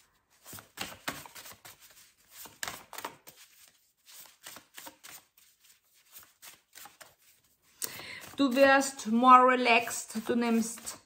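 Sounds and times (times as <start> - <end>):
cards being shuffled: 0.3 - 9.0, 10.1 - 11.0.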